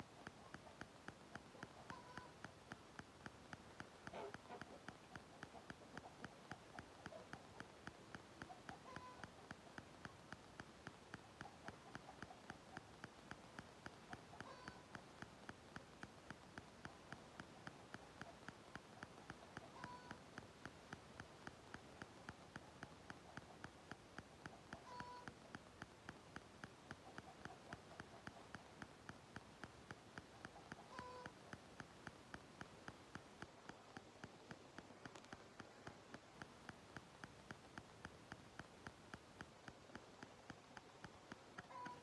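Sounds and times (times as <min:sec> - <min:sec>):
steady regular ticking: 0:00.0 - 0:42.0.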